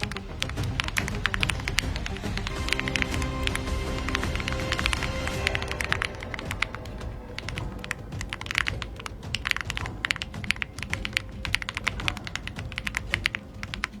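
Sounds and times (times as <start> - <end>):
typing on mechanical keyboard: 0.0 - 14.0.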